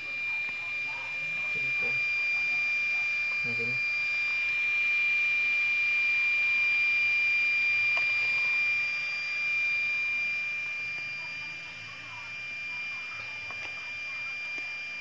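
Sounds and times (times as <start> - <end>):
high-pitched electronic tone: 0.0 - 15.0.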